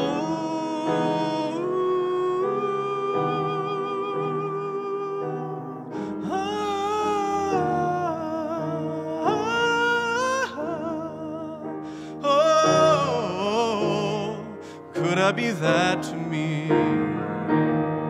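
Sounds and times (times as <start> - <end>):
grand piano accompaniment: 0.0 - 18.0
man singing with vibrato: 0.0 - 18.0.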